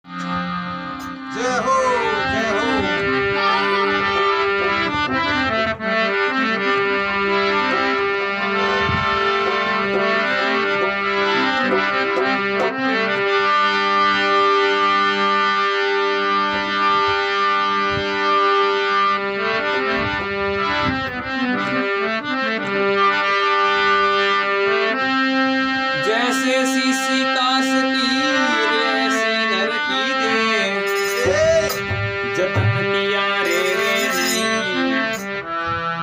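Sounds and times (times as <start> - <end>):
harmonium playing chords and melody: 0.0 - 36.0.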